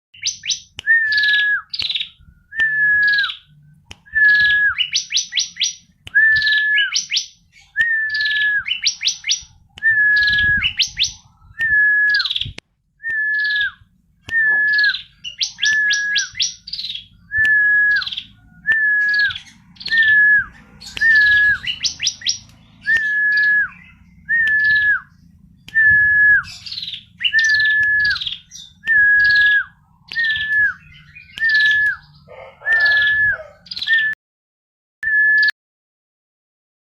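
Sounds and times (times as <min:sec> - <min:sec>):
bird whistled calls and chirps: 0:00.2 - 0:34.2, 0:35.0 - 0:35.5.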